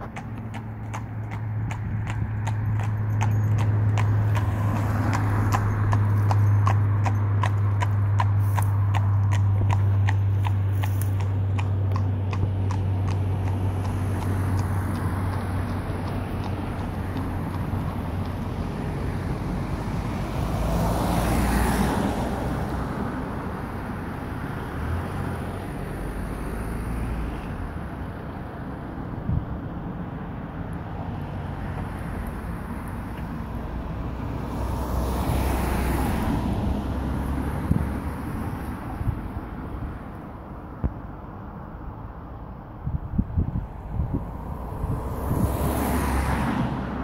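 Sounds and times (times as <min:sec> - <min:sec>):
car passing close: 0:00.0 - 0:28.0, 0:30.8 - 0:40.2, 0:43.6 - 0:47.0.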